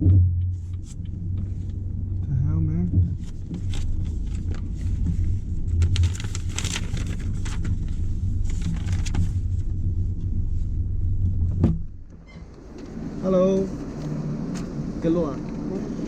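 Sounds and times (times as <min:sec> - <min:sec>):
car cabin rumble: 0:00.0 - 0:13.7.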